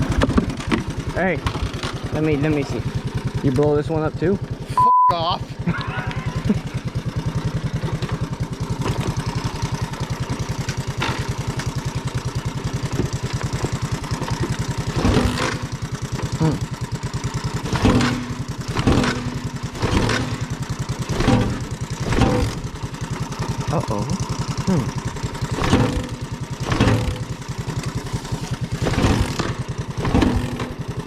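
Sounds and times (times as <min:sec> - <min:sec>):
engine bursts: 0:00.0 - 0:31.0
small engine idling: 0:00.0 - 0:31.0.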